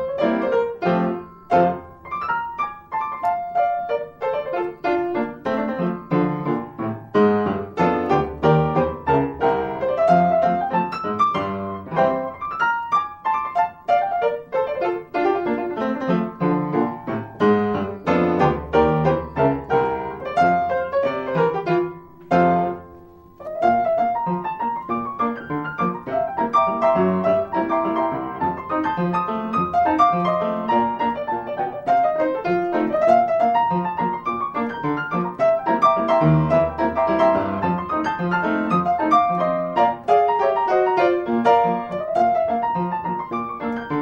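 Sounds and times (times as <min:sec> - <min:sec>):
solo piano playing: 0:00.0 - 0:44.0.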